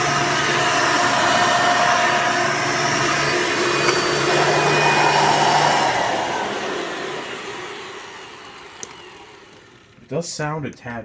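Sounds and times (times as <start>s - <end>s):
vacuum cleaner motor running: 0.0s - 10.1s.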